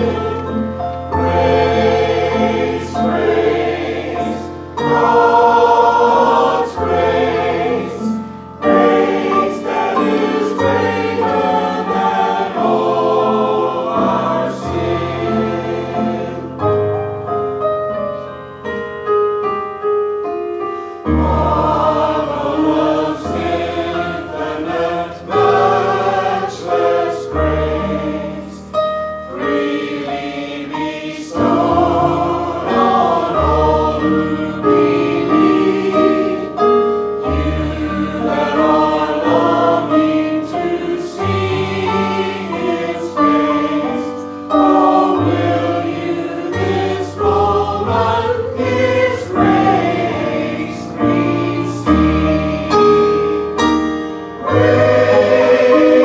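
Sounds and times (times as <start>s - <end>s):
choir singing a hymn: 0.0s - 17.6s, 20.9s - 56.0s
instrumental accompaniment: 0.0s - 56.0s.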